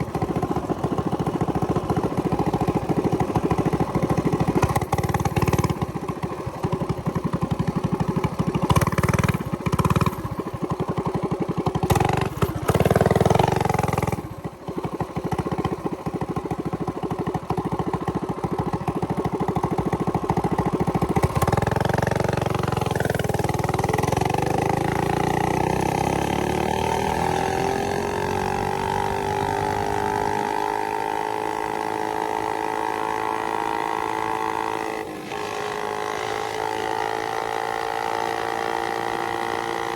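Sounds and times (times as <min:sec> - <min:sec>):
mini bike engine revving: 0:00.0 - 0:39.9.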